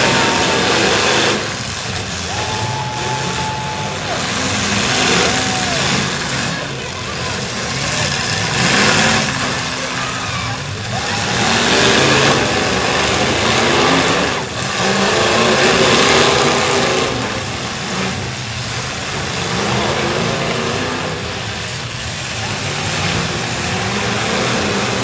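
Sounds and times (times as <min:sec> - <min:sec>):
truck engines revving hard: 0:00.0 - 0:25.0.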